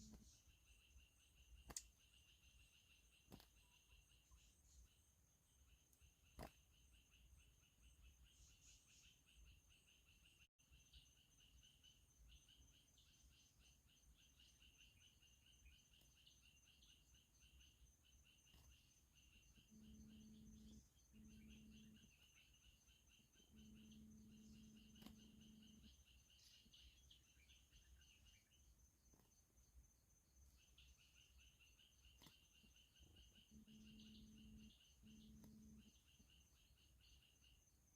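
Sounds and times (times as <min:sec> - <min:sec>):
low steady hum: 0:00.0 - 0:09.8, 0:10.6 - 0:37.9
insect chirping trill: 0:00.0 - 0:37.9.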